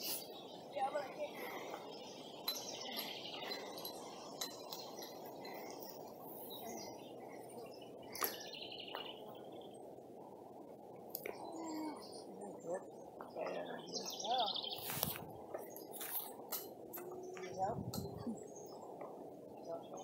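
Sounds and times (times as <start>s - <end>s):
faint bird chirps: 0.0s - 10.5s, 11.2s - 20.0s
low background rush: 0.0s - 20.0s.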